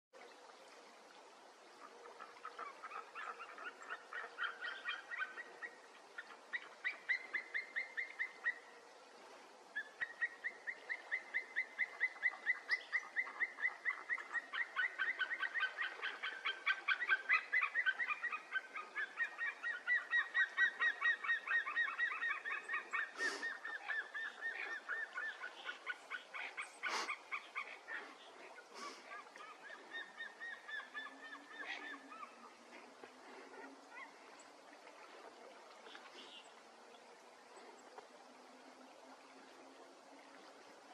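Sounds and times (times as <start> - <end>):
eagles yelping: 2.0 - 8.8, 9.8 - 36.4.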